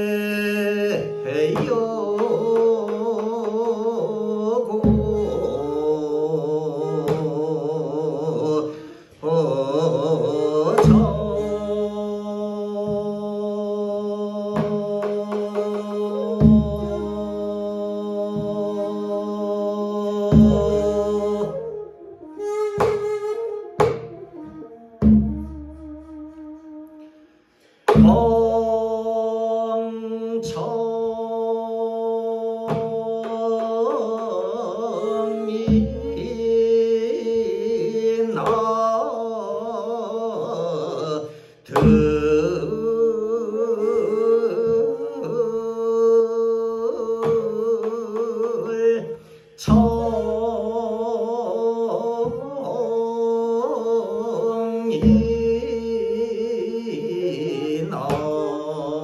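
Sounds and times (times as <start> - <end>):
person singing with vibrato: 0.0 - 25.3, 27.9 - 59.0
bamboo flute: 0.0 - 31.0, 32.6 - 59.0.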